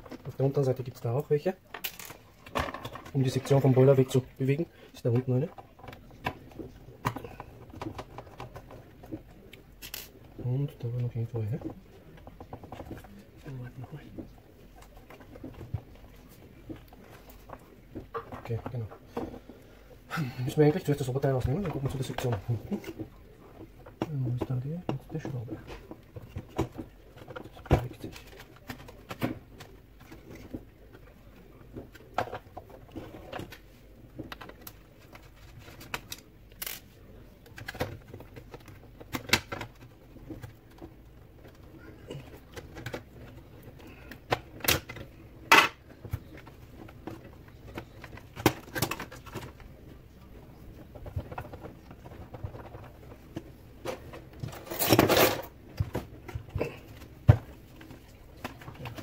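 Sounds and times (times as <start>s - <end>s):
plastic parts clicking and knocking: 0.0s - 19.6s, 20.5s - 59.0s
plastic parts rattling: 0.0s - 19.6s, 20.5s - 59.0s.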